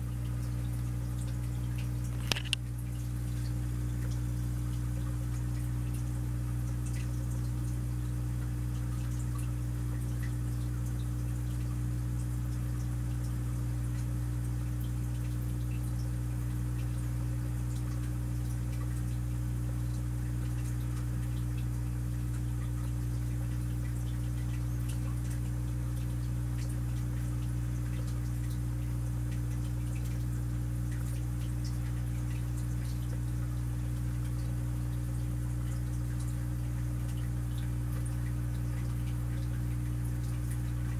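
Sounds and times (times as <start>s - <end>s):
aquarium filter humming: 0.0s - 40.9s
water trickling and dripping: 0.0s - 40.9s.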